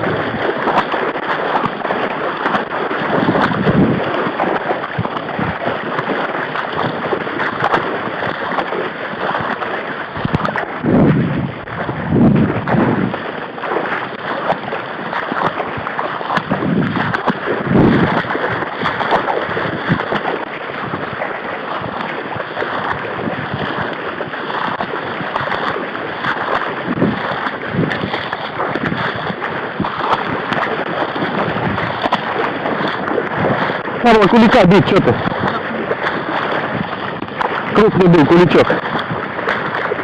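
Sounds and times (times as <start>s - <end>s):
water sloshing with steps: 0.0s - 40.0s.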